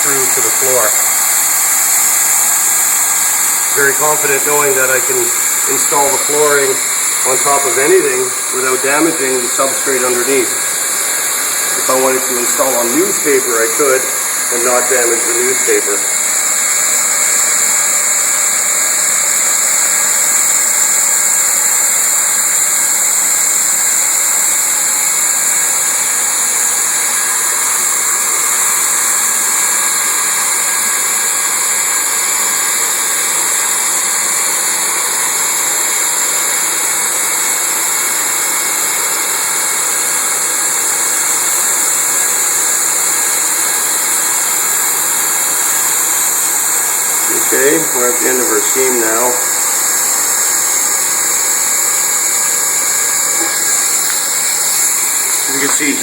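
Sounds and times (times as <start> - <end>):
hot-air welding gun blowing: 0.0 - 56.0.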